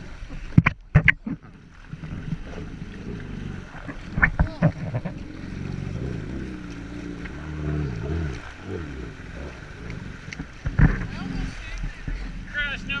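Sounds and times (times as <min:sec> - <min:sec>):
jet ski engine running: 0:01.1 - 0:13.0.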